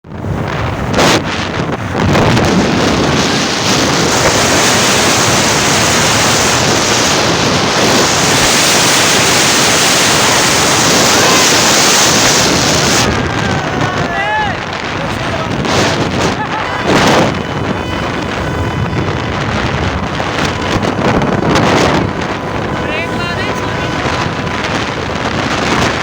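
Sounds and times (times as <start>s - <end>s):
loud steady rushing noise: 0.0s - 26.0s.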